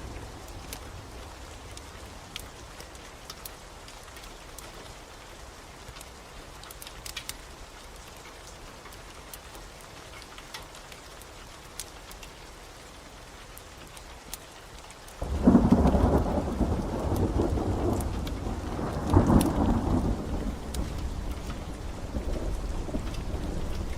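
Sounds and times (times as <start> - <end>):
steady rain falling: 0.0 - 23.9
wood fire crackling: 0.0 - 23.9.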